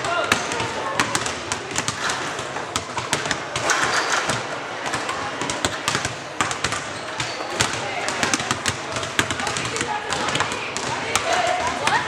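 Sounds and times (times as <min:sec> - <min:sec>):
basketball bouncing: 0:00.0 - 0:12.0.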